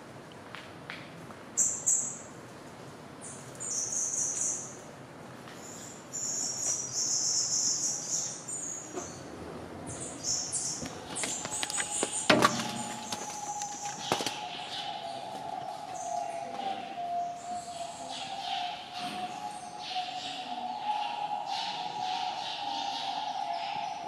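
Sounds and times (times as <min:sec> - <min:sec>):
small birds chirping: 0:03.2 - 0:04.8, 0:05.6 - 0:09.3, 0:09.9 - 0:24.0.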